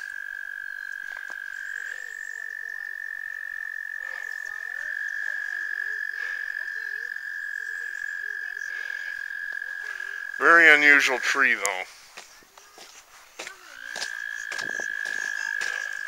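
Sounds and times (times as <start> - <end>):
frogs trilling: 0.0 - 16.0.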